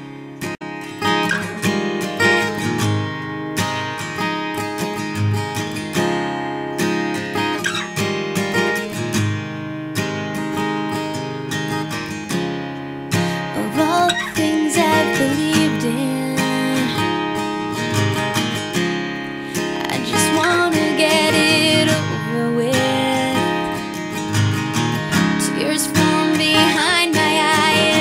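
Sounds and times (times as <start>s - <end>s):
strummed acoustic guitar: 0.0s - 28.0s.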